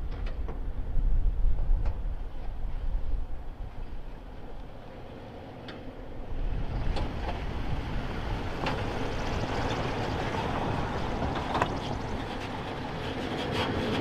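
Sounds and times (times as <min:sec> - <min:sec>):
truck rumbling on dirt trail: 0:00.0 - 0:14.0.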